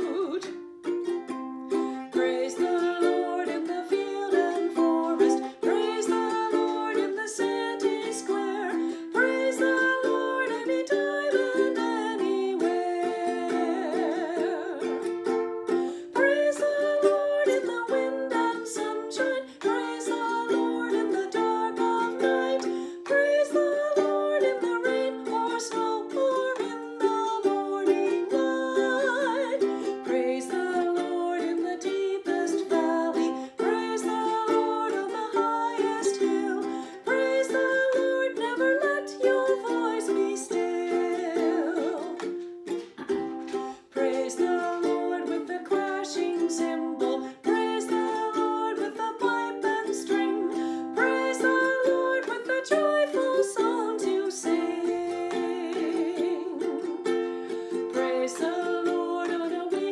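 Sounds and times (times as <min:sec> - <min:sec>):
ukulele strumming chords: 0:00.0 - 0:59.9.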